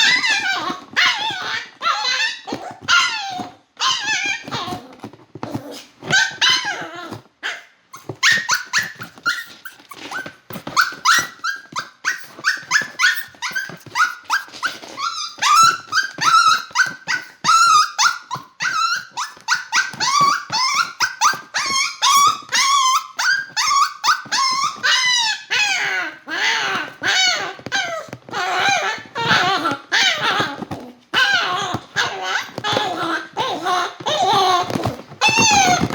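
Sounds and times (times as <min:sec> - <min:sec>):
small dog barking and yelping: 0:00.0 - 0:35.9.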